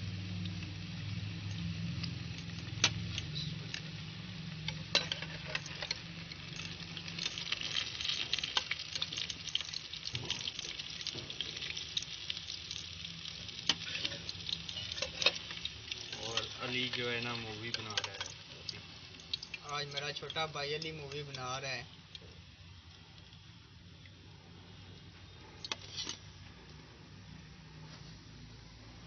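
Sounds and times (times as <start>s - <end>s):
fish deep-frying in oil: 0.0s - 29.0s.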